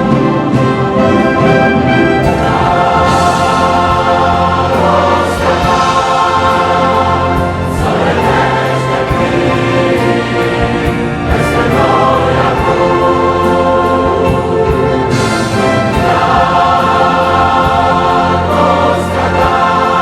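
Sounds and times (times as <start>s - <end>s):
choir singing: 0.0s - 20.0s
orchestral accompaniment: 0.0s - 20.0s.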